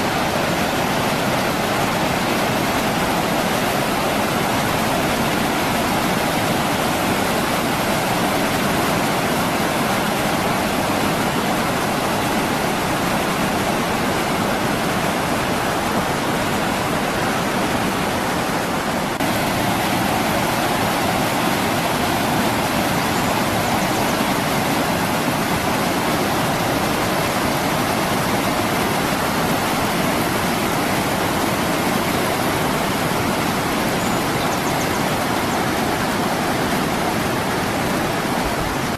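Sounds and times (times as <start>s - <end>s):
river rapids roaring over rocks: 0.0s - 38.9s.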